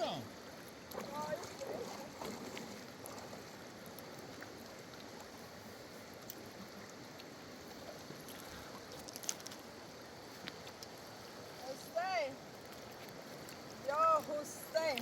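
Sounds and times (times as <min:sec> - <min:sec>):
flowing or lapping water: 0:00.0 - 0:15.0.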